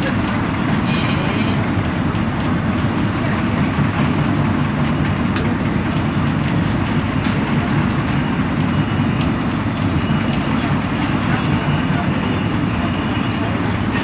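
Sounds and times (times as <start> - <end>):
bus engine and tyres rumbling: 0.0 - 14.0.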